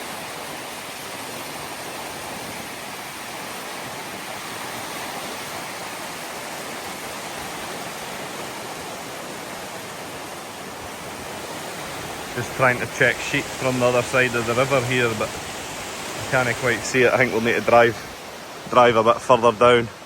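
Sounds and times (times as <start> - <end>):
river rushing water: 0.0 - 20.0.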